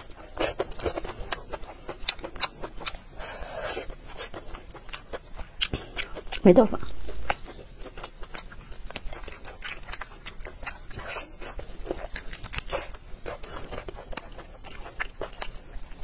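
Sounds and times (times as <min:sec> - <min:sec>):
wet chewing and lip smacks: 0:00.0 - 0:16.0.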